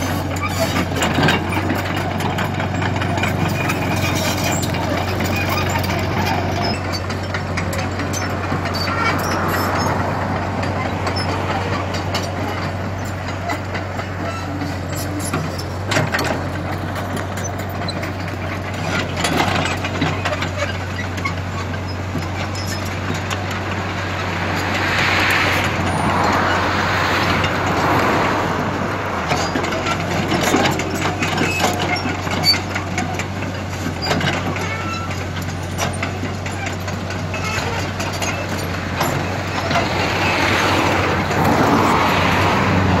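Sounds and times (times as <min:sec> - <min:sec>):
clanks and knocks: 0:00.0 - 0:43.0
excavator diesel engine running: 0:00.0 - 0:43.0.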